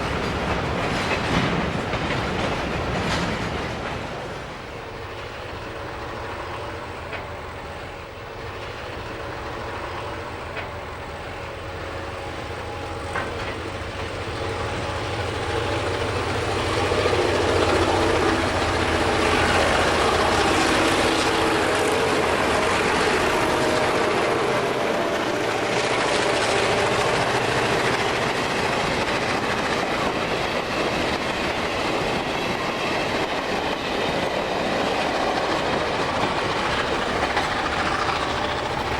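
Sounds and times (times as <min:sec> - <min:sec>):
diesel locomotive engine: 0:00.0 - 0:38.9
train wheels on rail: 0:00.0 - 0:38.9.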